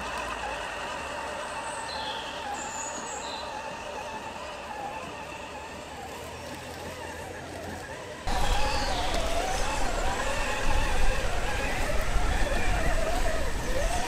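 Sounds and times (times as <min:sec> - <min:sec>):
electric toy truck motor whining: 0:00.0 - 0:14.0.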